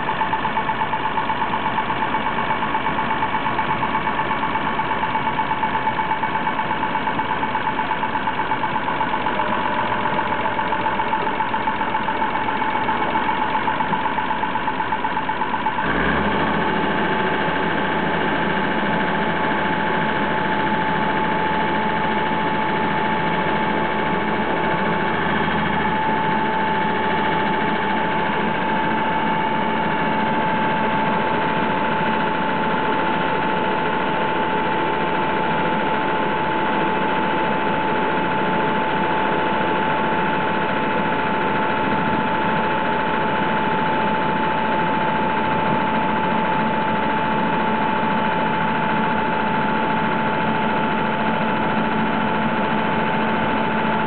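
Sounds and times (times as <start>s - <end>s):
bulldozer engine idling: 0.0s - 54.0s.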